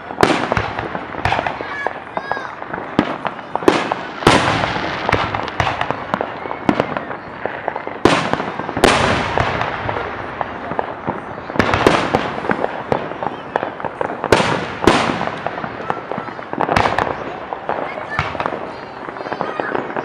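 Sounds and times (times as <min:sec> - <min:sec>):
crackling rumble: 0:00.0 - 0:20.0
fireworks bangs: 0:00.0 - 0:20.0
small firework pops: 0:00.0 - 0:20.0.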